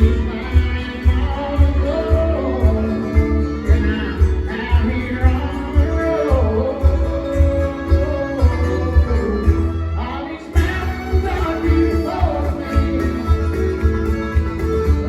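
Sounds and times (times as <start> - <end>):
band playing a country song: 0.0 - 15.0
person singing: 0.0 - 15.0.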